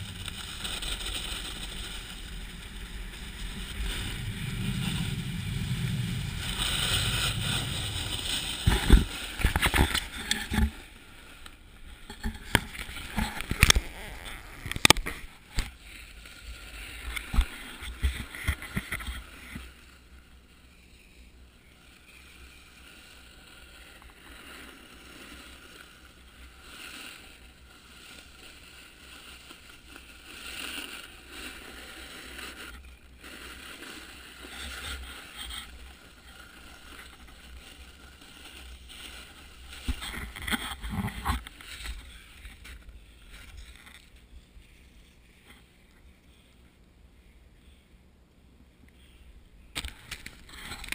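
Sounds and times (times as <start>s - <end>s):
snowboard scraping over snow: 0.0s - 20.1s, 20.7s - 43.8s.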